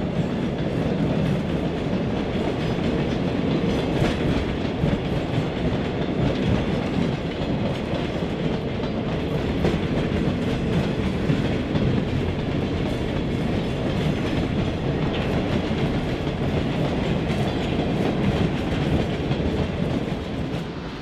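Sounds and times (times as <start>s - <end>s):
wheels clacking over rail joints: 0.1s - 20.6s.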